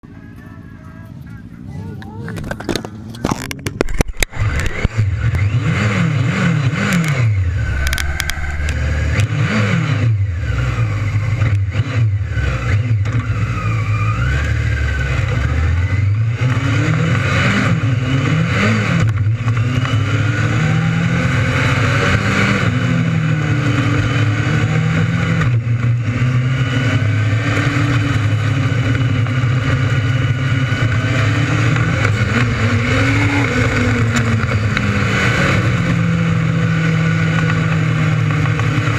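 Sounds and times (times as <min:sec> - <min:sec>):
racing engines revving: 0:01.1 - 0:38.9.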